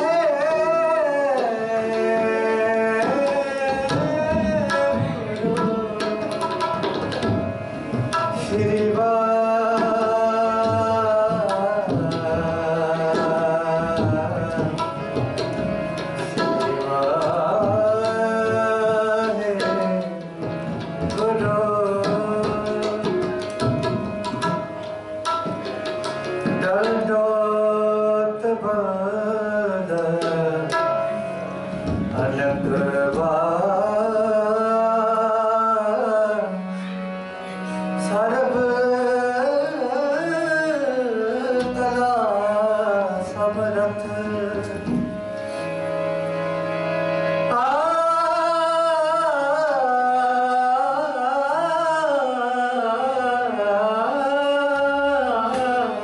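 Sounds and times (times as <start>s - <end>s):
man singing: 0.0s - 7.0s, 8.3s - 15.1s, 16.3s - 23.9s, 26.5s - 30.9s, 32.1s - 36.7s, 38.0s - 45.2s, 47.5s - 56.0s
tabla drums: 0.0s - 36.4s, 38.0s - 46.2s, 47.4s - 56.0s
harmonium: 0.0s - 56.0s.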